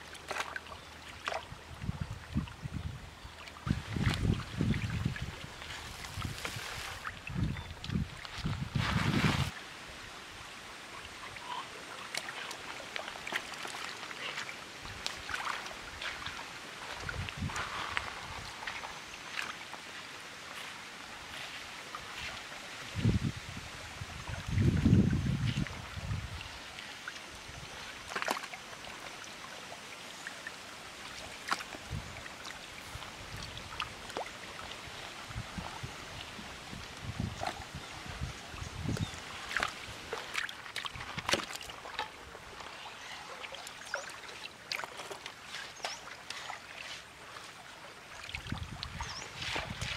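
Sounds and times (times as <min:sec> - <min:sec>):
small water splashes: 0:00.0 - 0:02.6, 0:03.3 - 0:09.6, 0:11.0 - 0:22.7, 0:24.2 - 0:49.9
stream trickling over pebbles: 0:00.0 - 0:49.9.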